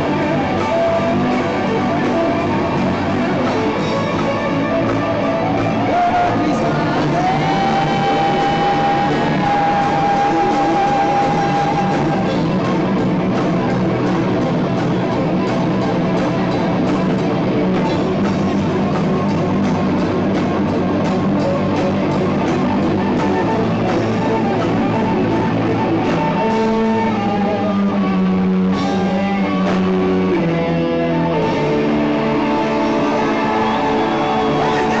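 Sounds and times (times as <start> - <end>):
live rock band: 0.0 - 35.0
melodic line over band: 0.0 - 35.0.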